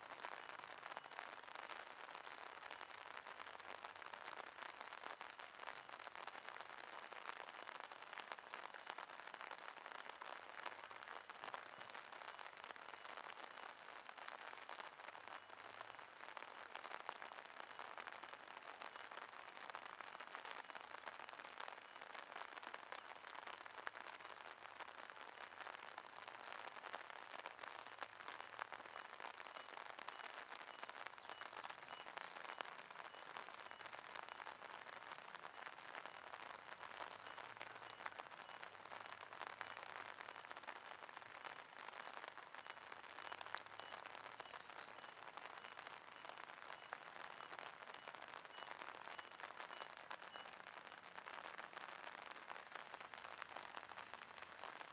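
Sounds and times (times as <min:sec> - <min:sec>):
light rain pattering on water: 0:00.0 - 0:54.9.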